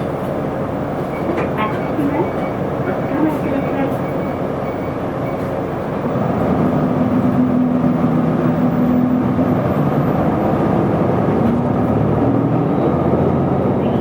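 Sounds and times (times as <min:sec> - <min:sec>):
bus diesel engine drone: 0:00.0 - 0:14.0
road and tyre noise: 0:00.0 - 0:14.0.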